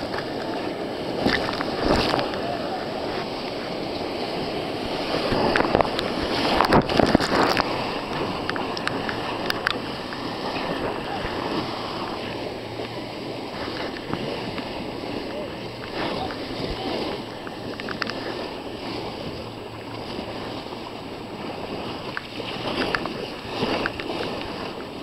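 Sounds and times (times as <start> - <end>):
river rapids rushing: 0.0 - 24.8
waves slapping raft: 0.0 - 25.0.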